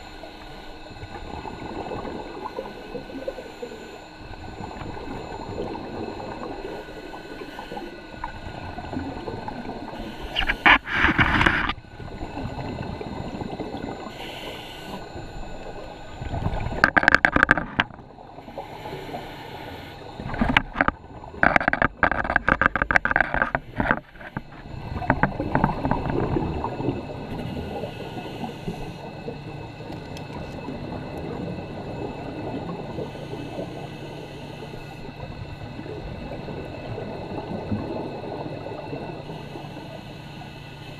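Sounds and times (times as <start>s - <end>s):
muffled underwater background: 0.0s - 40.9s
exhaled bubbles crackling: 0.8s - 19.3s, 20.0s - 33.9s, 34.7s - 39.6s.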